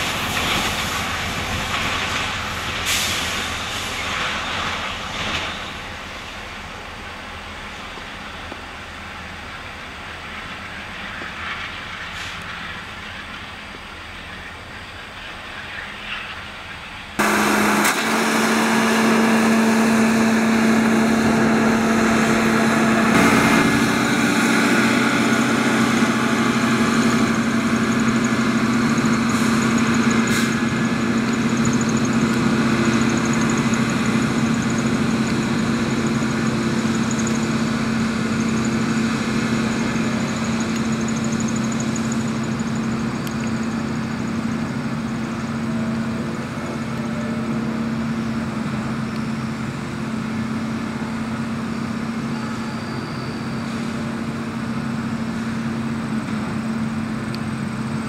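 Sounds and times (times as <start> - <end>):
rail machines diesel engines: 0.0 - 58.0.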